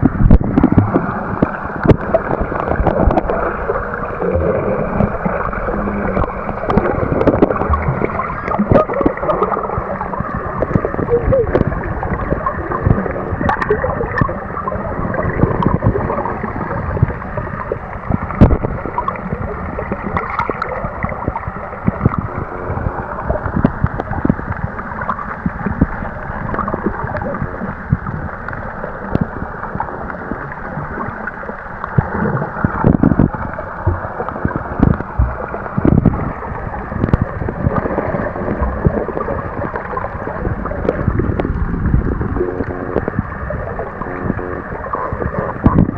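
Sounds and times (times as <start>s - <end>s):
underwater gurgling and bubbling: 0.0s - 45.9s.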